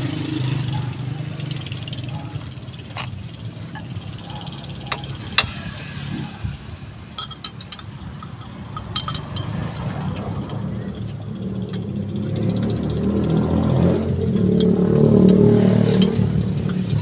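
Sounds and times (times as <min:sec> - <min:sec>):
metallic clinks of hand tools: 0:01.9 - 0:17.0.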